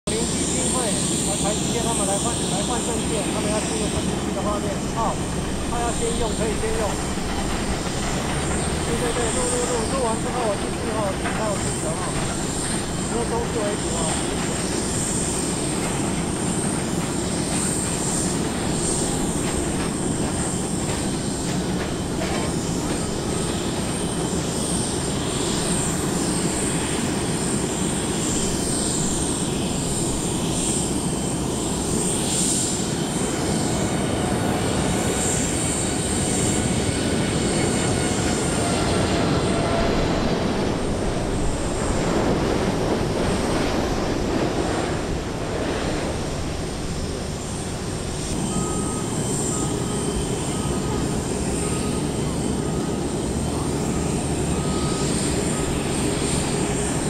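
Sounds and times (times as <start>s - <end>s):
jet engines on approach: 0.0s - 57.0s.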